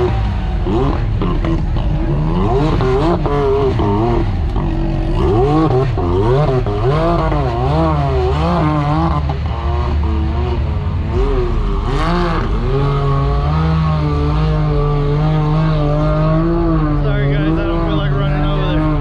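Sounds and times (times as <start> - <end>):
engine revving hard: 0.0 - 19.0.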